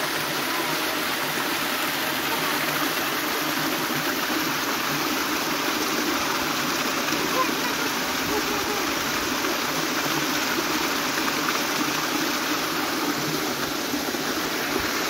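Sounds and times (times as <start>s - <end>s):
water pouring through sluice: 0.0s - 15.0s.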